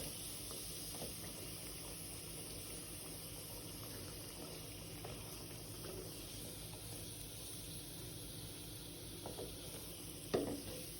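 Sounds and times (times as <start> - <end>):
food sizzling in hot oil: 0.0 - 10.9.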